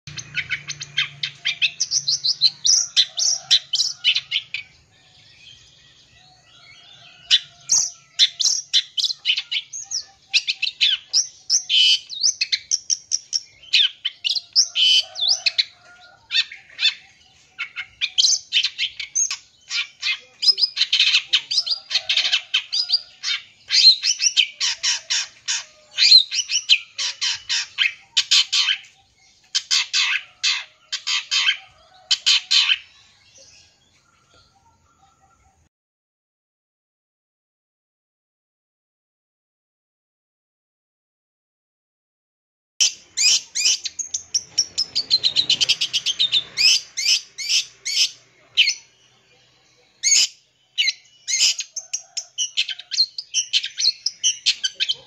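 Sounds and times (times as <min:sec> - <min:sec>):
shrike singing chattering song: 0:00.1 - 0:33.8, 0:42.8 - 0:55.0.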